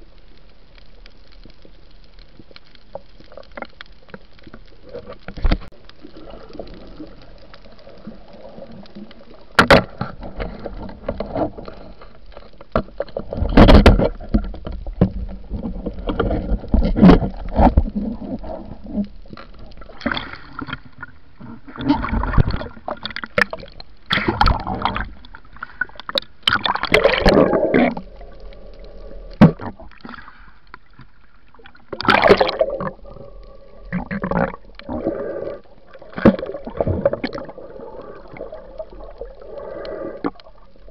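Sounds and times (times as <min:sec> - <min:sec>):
water sloshing and gurgling: 0:01.4 - 0:40.9.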